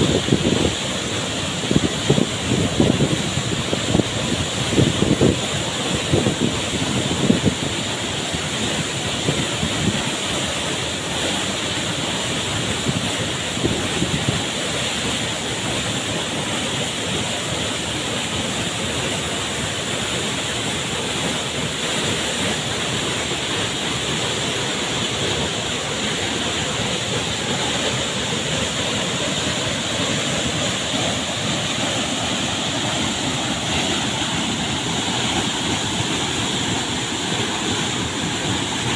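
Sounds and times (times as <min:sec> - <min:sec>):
waterfall rushing onto rock: 0:00.0 - 0:38.9.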